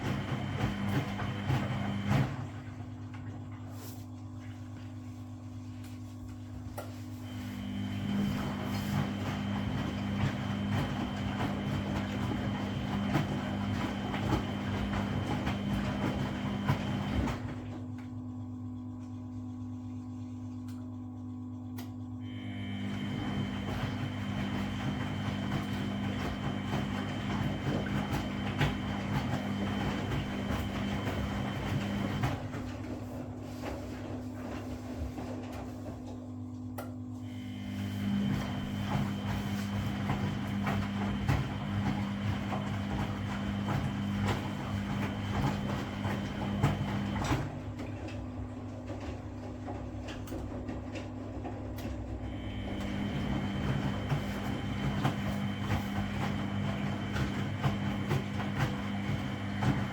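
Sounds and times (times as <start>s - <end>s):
washing machine drum turning: 0.0s - 3.3s, 6.9s - 17.9s, 22.3s - 36.1s, 37.4s - 59.9s.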